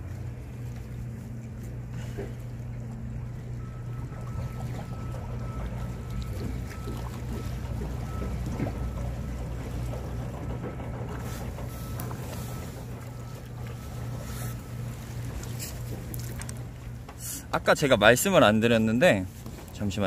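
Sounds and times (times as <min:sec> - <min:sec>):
boat engine humming: 0:00.0 - 0:20.0
water noise: 0:00.0 - 0:20.0
wind: 0:00.0 - 0:20.0.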